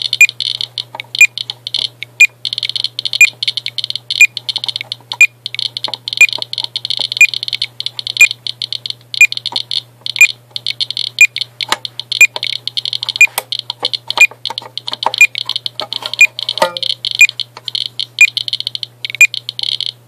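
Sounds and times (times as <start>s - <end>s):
geiger counter clicking: 0.0s - 20.0s.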